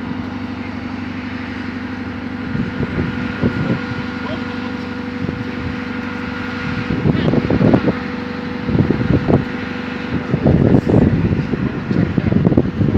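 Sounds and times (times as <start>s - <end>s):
engine hum with high whine: 0.0s - 12.9s
wind buffeting microphone: 2.0s - 12.9s.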